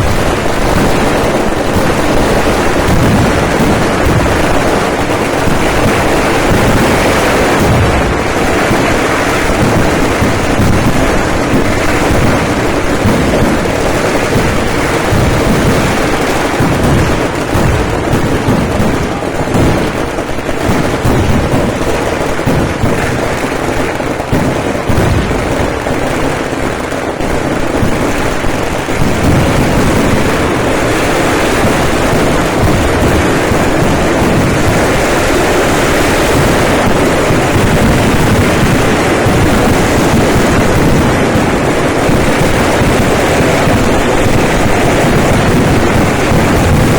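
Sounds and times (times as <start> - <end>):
fireworks barrage: 0.0 - 46.9.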